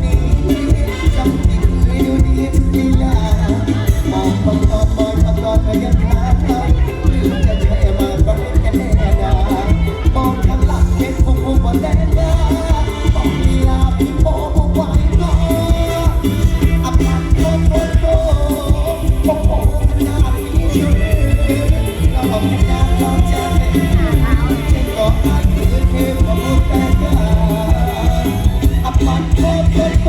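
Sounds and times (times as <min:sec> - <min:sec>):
heavy bass beat: 0:00.0 - 0:30.0
person singing: 0:00.0 - 0:30.0.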